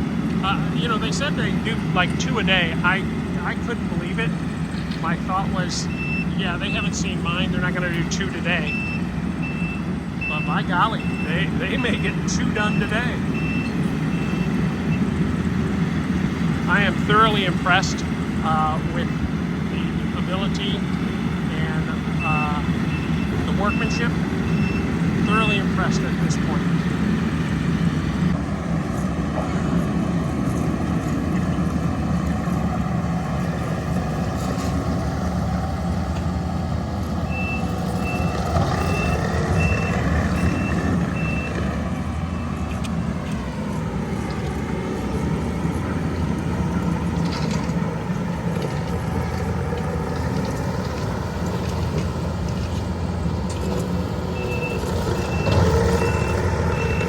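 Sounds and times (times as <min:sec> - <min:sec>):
reversing alarm beeping: 0:00.0 - 0:28.4, 0:29.0 - 0:57.0
heavy machinery engine running: 0:00.0 - 0:57.0.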